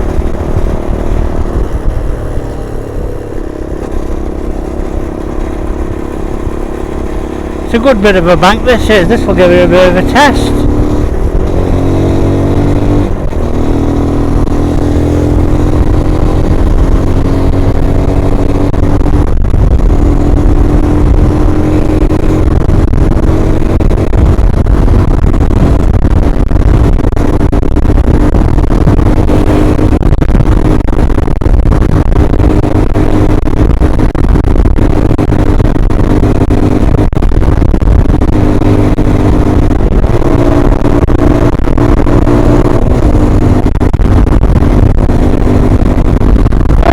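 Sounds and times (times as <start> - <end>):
wind noise on microphone: 0.0 - 7.8, 8.6 - 46.9
motorcycle engine climbing: 0.0 - 46.9.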